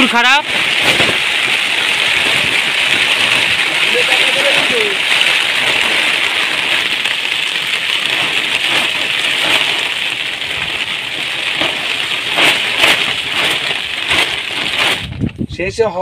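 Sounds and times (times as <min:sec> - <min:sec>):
heavy rain hissing: 0:00.0 - 0:15.2
rain spatters: 0:00.0 - 0:15.4.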